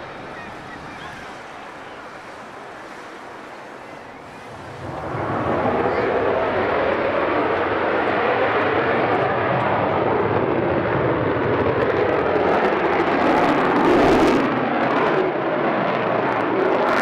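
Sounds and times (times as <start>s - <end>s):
fighter jet engine roaring: 0.0s - 17.0s.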